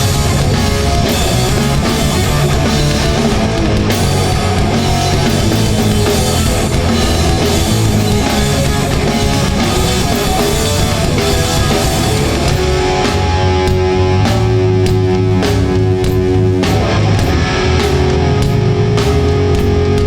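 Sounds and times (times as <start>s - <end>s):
punk band playing live: 0.0s - 20.0s.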